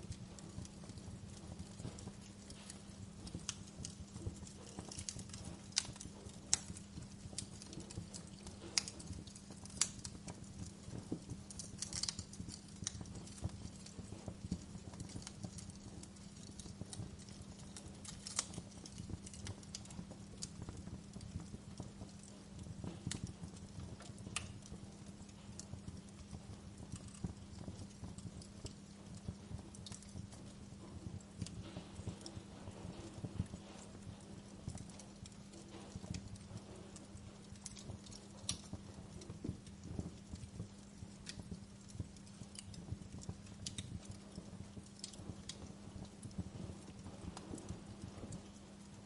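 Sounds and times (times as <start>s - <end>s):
steady low hum: 0.0s - 49.0s
wood fire crackling: 0.0s - 49.0s.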